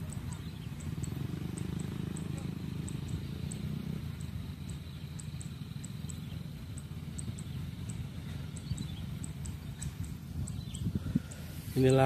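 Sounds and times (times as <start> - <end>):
distant engine rumble: 0.0 - 12.0.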